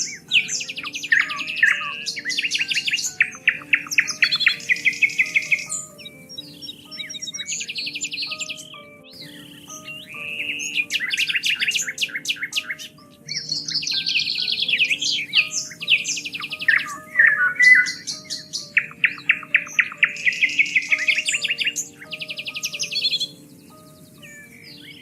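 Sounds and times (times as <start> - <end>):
soft background music: 0.0 - 25.0
songbirds singing in trills: 0.0 - 25.0.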